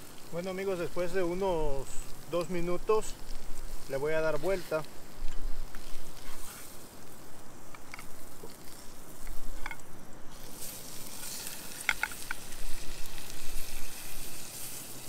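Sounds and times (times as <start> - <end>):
fish sizzling in a skillet: 0.0 - 15.0.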